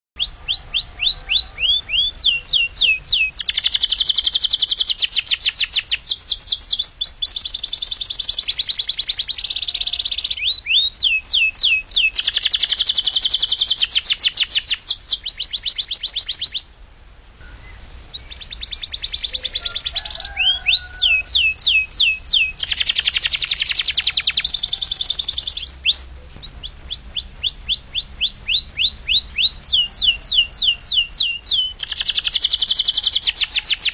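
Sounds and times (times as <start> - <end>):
canary trilling: 0.2 - 16.7, 17.6 - 33.9.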